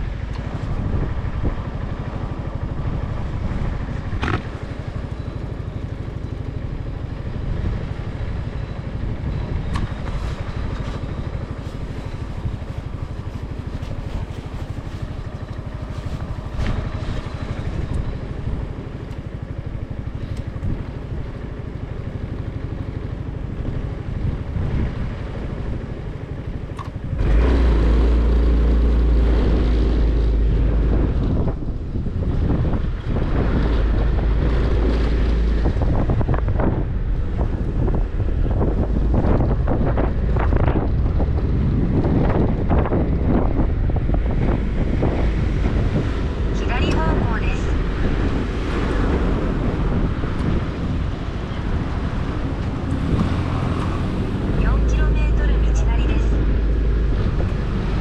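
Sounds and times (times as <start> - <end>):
motorcycle engine: 0.0 - 58.0
wind buffeting microphone: 0.0 - 58.0.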